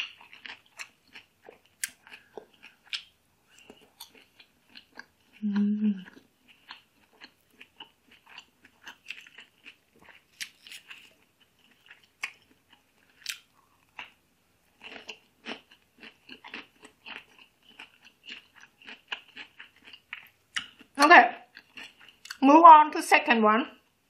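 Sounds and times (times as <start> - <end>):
person chewing leafy greens: 0.0 - 22.4.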